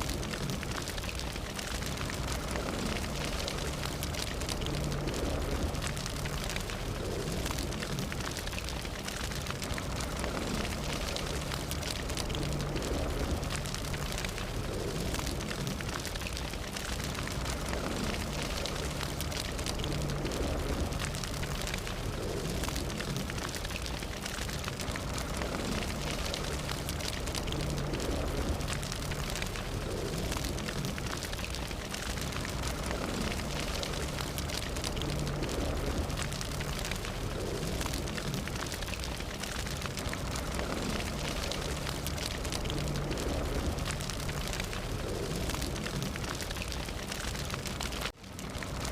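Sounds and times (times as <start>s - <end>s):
fire crackling and popping: 0.0s - 48.9s
low fire rumble: 0.0s - 48.9s.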